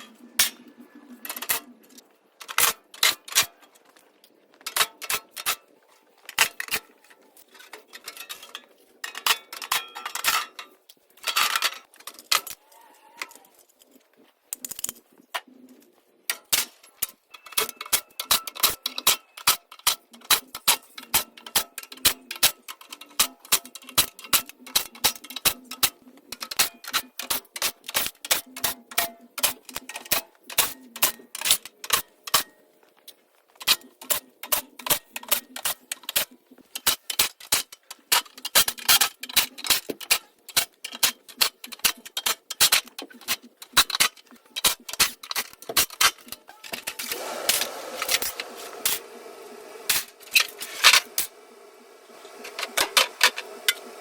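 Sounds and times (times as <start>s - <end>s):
hand tools clicking on metal: 0.0s - 15.5s, 16.3s - 49.1s, 49.9s - 51.3s.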